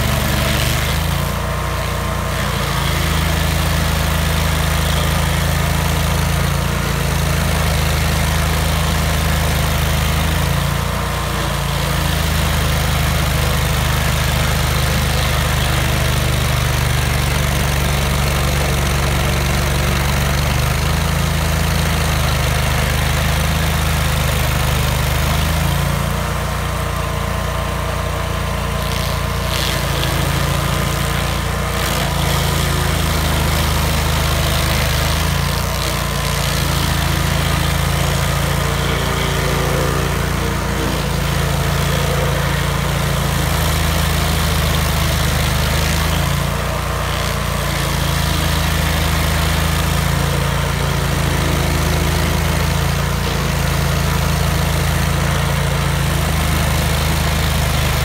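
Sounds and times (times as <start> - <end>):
cutter wheel grinding stump: 0.0 - 58.0
stump grinder engine running: 0.0 - 58.0.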